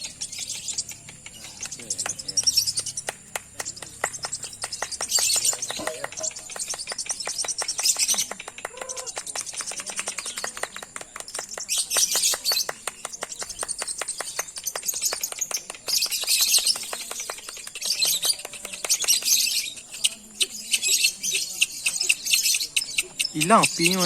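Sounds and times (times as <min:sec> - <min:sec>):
lovebird chattering song: 0:00.0 - 0:24.0.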